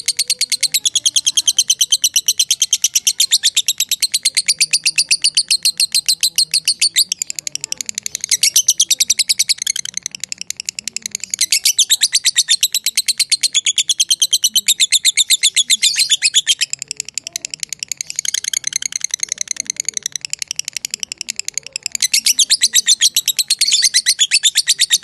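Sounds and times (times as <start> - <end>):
lovebird chattering high chirps: 0.0 - 25.0.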